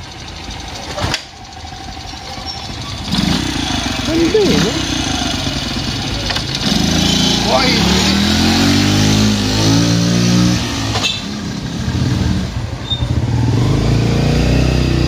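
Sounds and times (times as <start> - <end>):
small motorcycle engine revving: 0.0 - 15.0.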